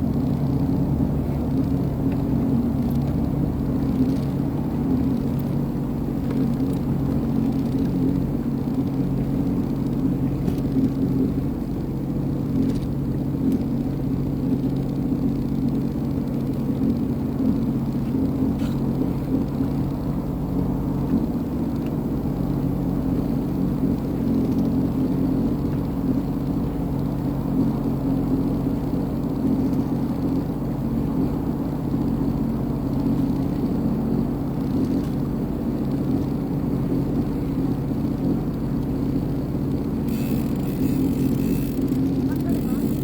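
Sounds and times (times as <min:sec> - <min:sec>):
watercraft engine running: 0:00.0 - 0:43.0.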